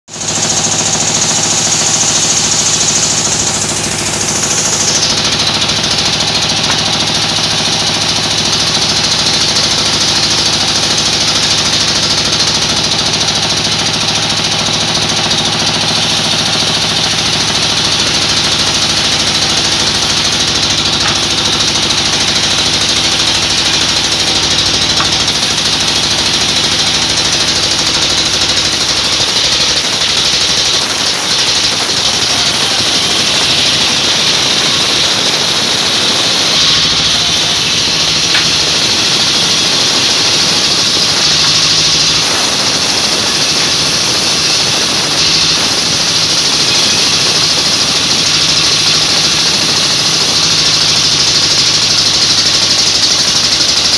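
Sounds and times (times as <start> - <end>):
band saw cutting logs: 0.1 - 53.9.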